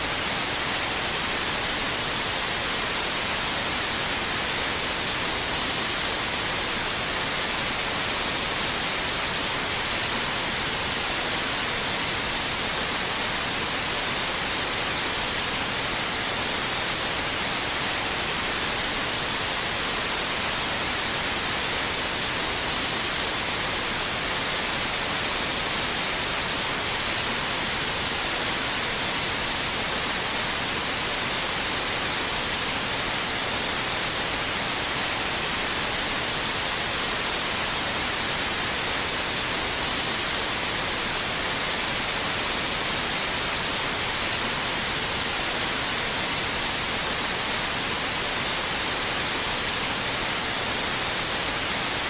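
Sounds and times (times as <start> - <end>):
white noise hiss: 0.0 - 52.0.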